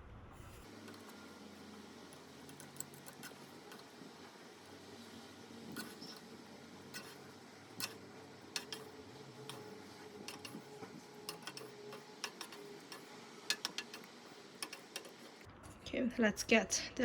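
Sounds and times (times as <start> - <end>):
utensils clicking against pot: 0.6 - 15.5.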